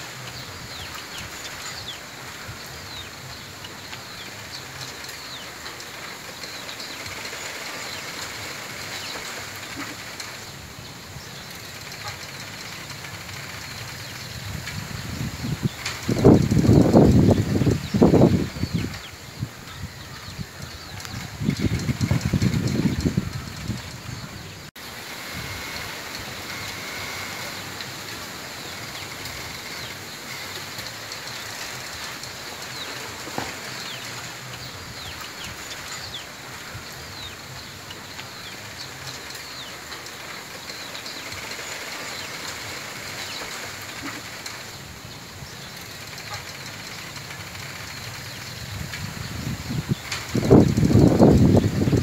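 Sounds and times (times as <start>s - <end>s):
bamboo leaves rustling in wind: 0.0s - 52.0s.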